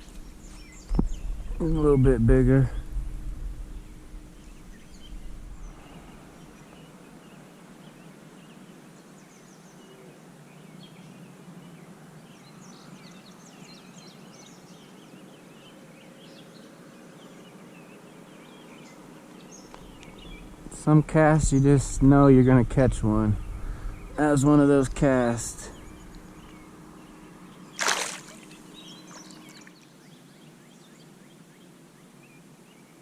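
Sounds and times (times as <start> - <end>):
background hiss: 0.0 - 33.0
small birds chirping: 0.0 - 33.0.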